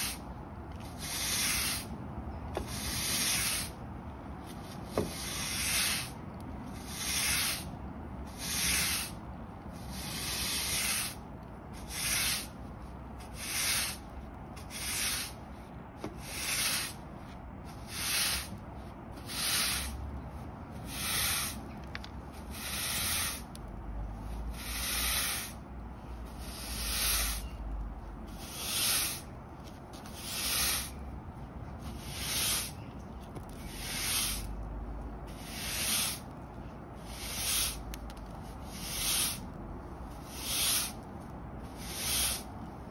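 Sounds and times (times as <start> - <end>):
broom sweeping grit on concrete: 0.0 - 0.2, 0.8 - 2.0, 2.6 - 3.8, 4.4 - 21.7, 22.3 - 27.6, 28.3 - 31.1, 31.8 - 32.8, 33.4 - 34.6, 35.3 - 36.3, 37.0 - 42.6.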